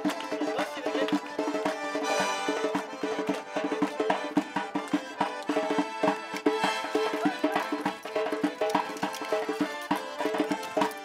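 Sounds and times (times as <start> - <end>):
quick drum beat: 0.0 - 11.0
sustained melody: 0.2 - 11.0.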